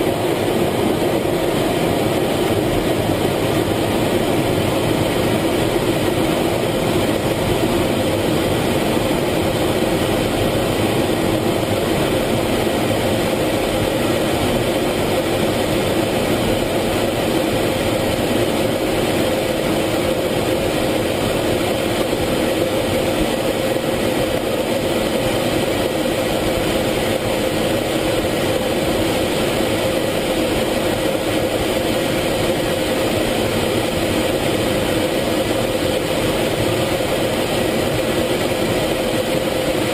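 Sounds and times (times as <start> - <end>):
constant two-pitch hum: 0.0 - 39.9
jet engine and airflow noise: 0.0 - 39.9.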